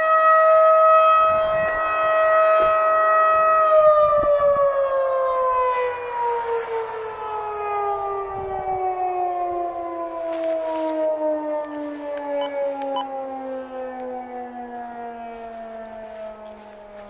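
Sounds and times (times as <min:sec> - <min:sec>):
warning siren winding down: 0:00.0 - 0:17.0.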